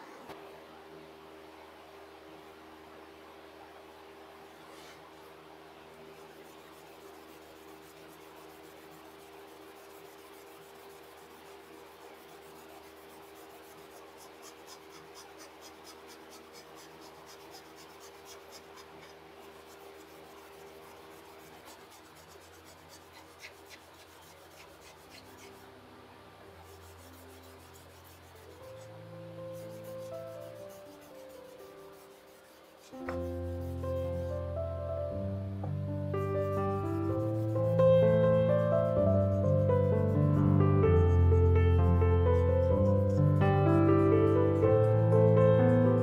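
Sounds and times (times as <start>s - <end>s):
abrasive pad scratching wood: 6.1s - 25.7s, 26.6s - 34.6s, 36.3s - 45.7s.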